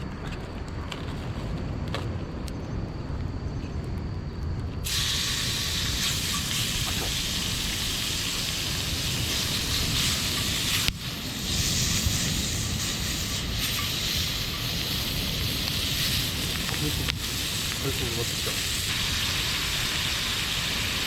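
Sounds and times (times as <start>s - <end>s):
steady hissing rushing noise: 0.0s - 21.0s.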